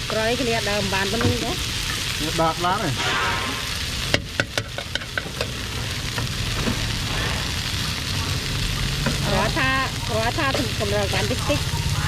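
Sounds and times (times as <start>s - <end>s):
garlic sizzling in oil: 0.0s - 12.0s.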